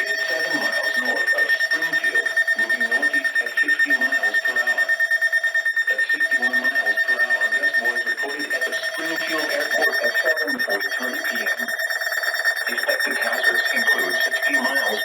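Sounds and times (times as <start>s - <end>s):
synthesized voice speaking: 0.0s - 4.9s, 5.9s - 11.7s, 12.7s - 15.0s
rapid electronic alarm beeping: 0.0s - 15.0s
steady high tone: 0.0s - 15.0s.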